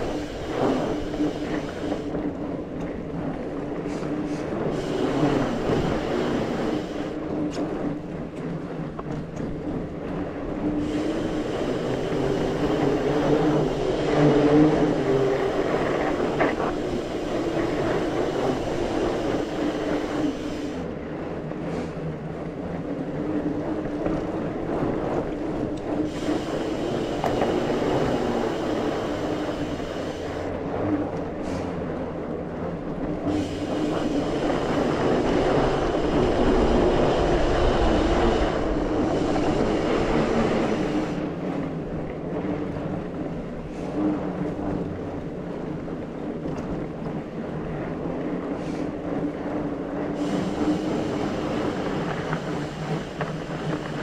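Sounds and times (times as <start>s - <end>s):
bike rattling: 0.0s - 54.0s
tyres rumbling on dirt: 0.0s - 54.0s.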